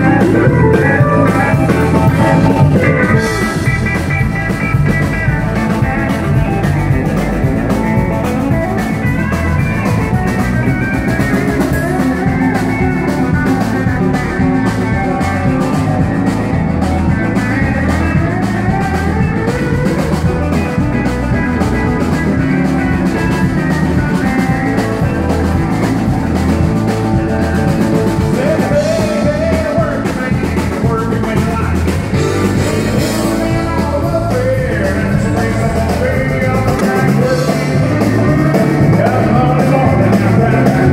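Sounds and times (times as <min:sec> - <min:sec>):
country rock band playing: 0:00.0 - 0:40.9
drum kit: 0:00.0 - 0:40.9
electric guitar: 0:00.0 - 0:40.9
keyboard: 0:00.0 - 0:40.9
pedal steel guitar: 0:00.0 - 0:40.9.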